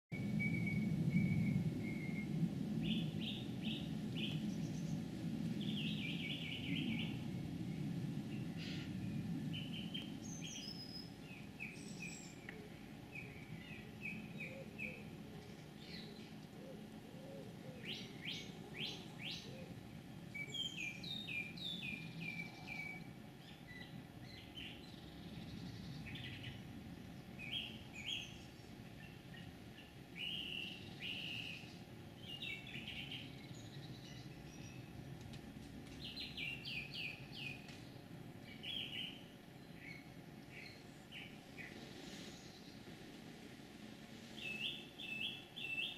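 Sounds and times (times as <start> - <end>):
songbird chirping and trilling: 0.1 - 35.2, 35.9 - 42.9, 44.3 - 45.9
low steady rumble: 0.1 - 45.9.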